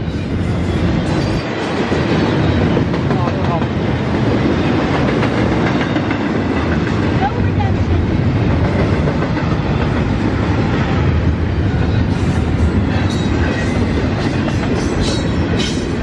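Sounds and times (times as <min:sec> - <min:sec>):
train wheels clickety-clack: 0:00.0 - 0:16.0.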